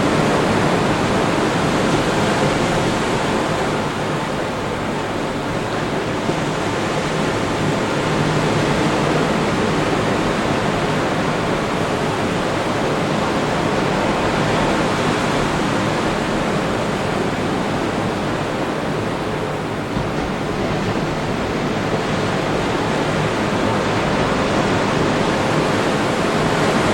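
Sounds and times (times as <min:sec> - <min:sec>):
ocean surf breaking: 0:00.0 - 0:26.9.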